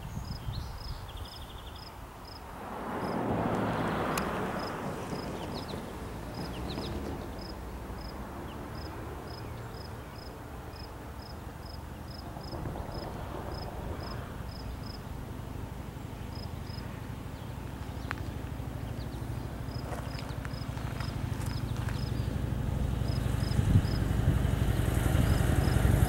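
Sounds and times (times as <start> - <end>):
high insect chirp: 0.0 - 15.7, 16.3 - 16.9, 17.9 - 24.1
diesel locomotives rumbling: 0.0 - 26.0.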